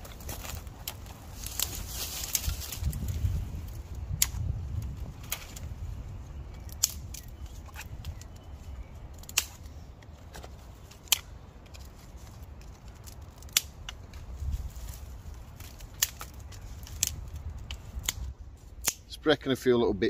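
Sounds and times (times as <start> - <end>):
dry twigs snapping: 0.0 - 19.1.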